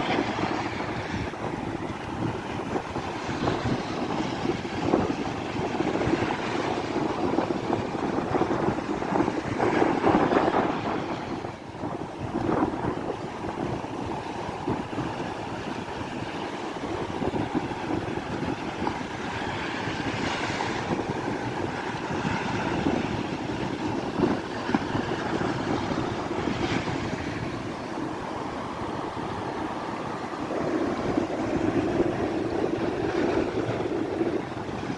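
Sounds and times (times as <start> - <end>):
surf washing on beach: 0.0 - 34.9
wind buffeting microphone: 0.0 - 34.9.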